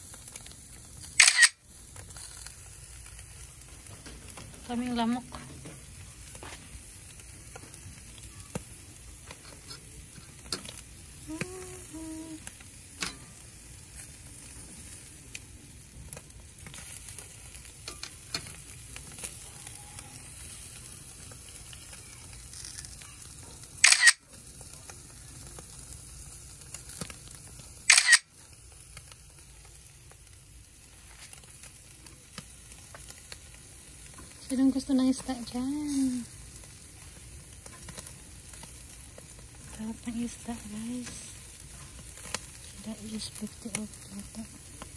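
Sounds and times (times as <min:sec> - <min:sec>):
food sizzling on grill: 0:00.0 - 0:44.9.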